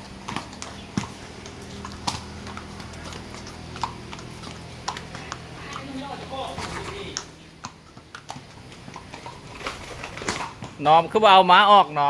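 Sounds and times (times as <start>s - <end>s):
hooves clip-clopping on concrete: 0.0s - 12.0s.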